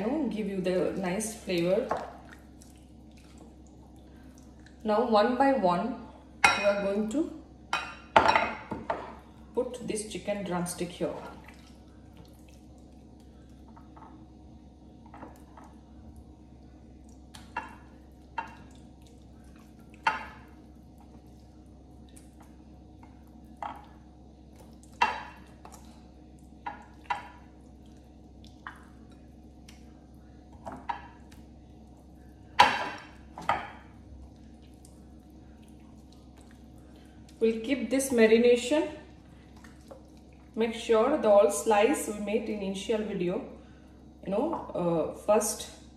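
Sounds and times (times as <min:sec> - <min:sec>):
faint steady hum: 0:00.0 - 0:45.9
wet squelches of marinating meat: 0:00.2 - 0:05.5, 0:09.2 - 0:42.7.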